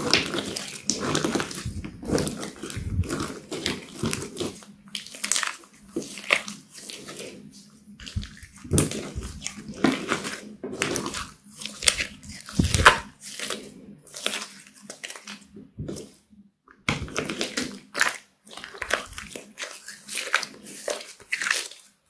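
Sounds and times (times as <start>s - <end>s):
slime squelching and popping: 0.0s - 16.2s, 16.8s - 22.0s.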